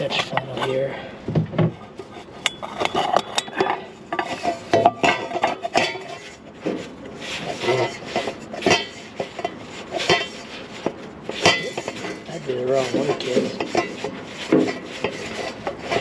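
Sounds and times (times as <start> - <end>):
hand tools and metal parts clinking: 0.0 - 1.0, 2.1 - 16.0.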